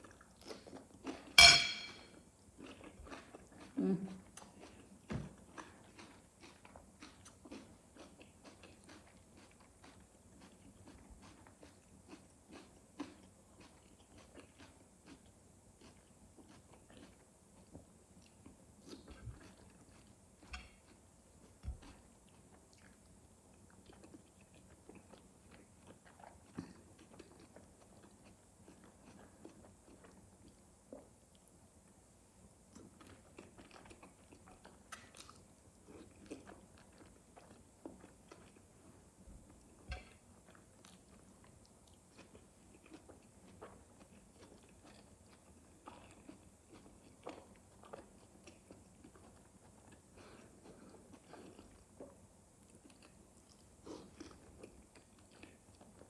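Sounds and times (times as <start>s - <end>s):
person chewing food: 0.0s - 31.6s, 32.7s - 56.0s.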